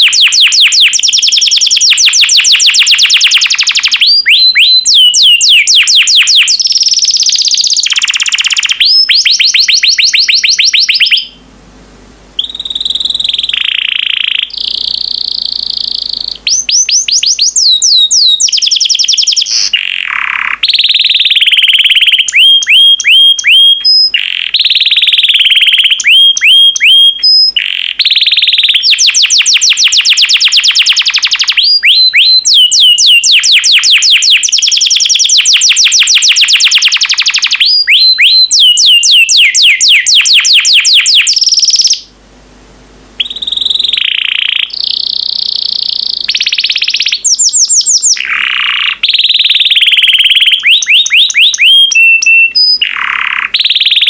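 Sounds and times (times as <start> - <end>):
canary singing trills: 0.0 - 11.4, 12.4 - 42.1, 43.2 - 54.0.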